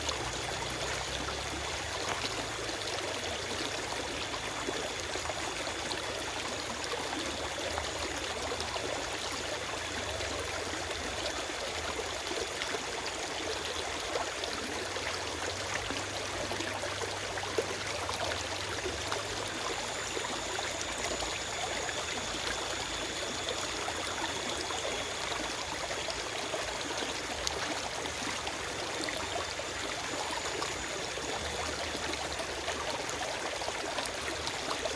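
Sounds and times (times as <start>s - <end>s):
small splashes and trickles: 0.0s - 34.9s
stream flowing over rocks: 0.0s - 34.9s.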